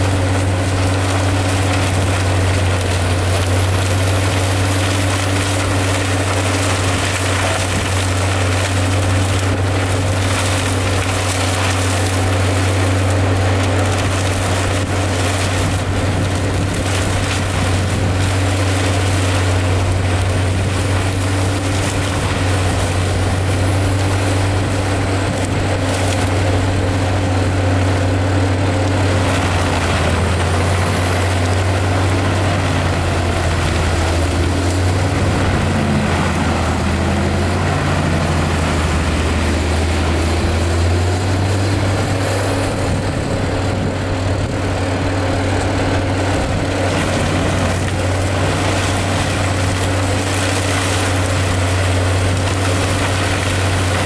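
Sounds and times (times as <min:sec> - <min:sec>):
forestry mulcher droning: 0:00.0 - 0:54.0
wood cracking: 0:00.0 - 0:54.0.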